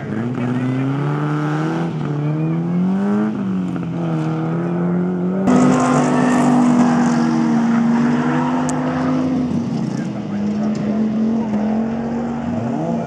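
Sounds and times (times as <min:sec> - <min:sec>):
racing car engines: 0:00.0 - 0:13.0.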